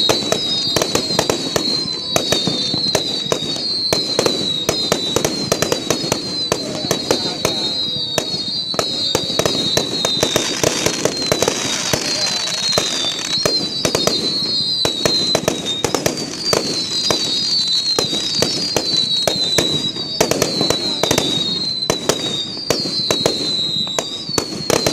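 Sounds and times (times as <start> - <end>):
falling firework whistle: 0.0 - 24.9
fireworks bangs and pops: 0.0 - 24.9.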